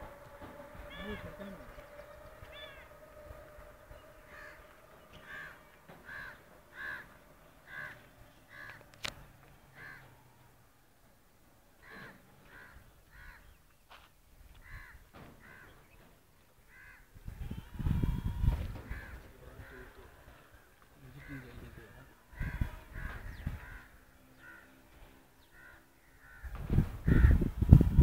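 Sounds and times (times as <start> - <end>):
faint bird calls: 0.1 - 10.5, 11.8 - 27.4.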